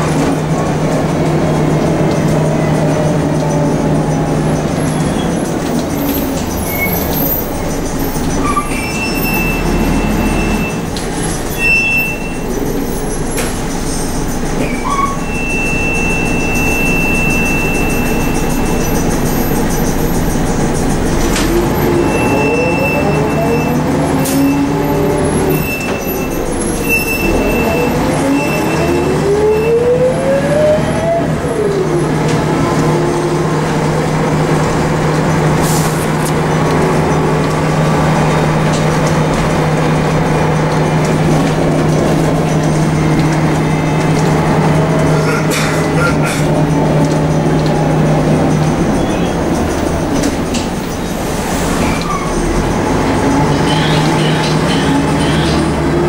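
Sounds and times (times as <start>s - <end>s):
bus diesel engine humming: 0.0s - 56.0s
drivetrain whine: 0.0s - 56.0s.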